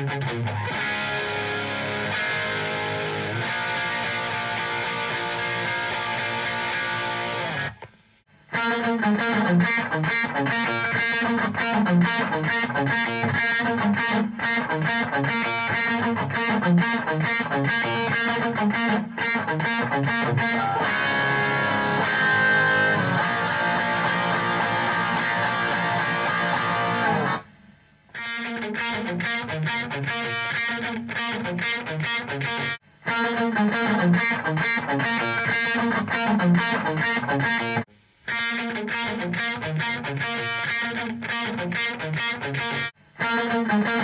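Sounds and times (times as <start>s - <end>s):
distorted electric guitar riffs: 0.0s - 44.0s.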